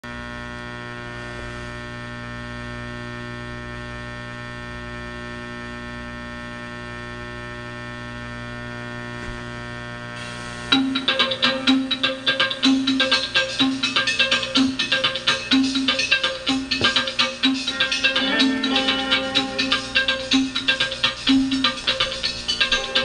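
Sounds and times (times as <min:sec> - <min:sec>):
electrical mains hum: 0:00.1 - 0:23.0.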